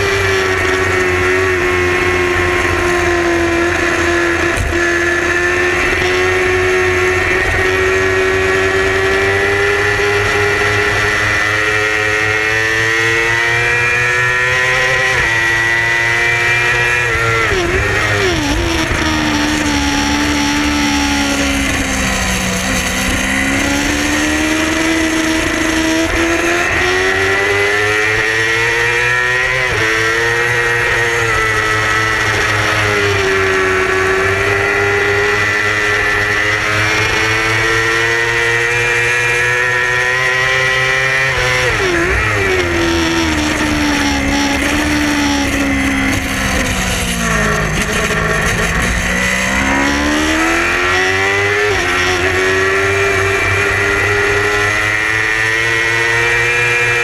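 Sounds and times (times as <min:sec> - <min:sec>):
motorcycle engine through gear changes: 0:00.0 - 0:57.0.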